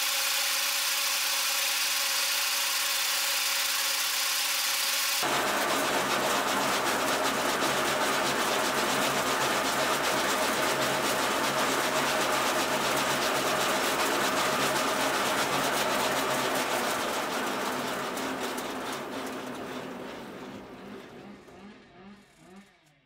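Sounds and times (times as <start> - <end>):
lathe motor hum: 0.0 - 21.4.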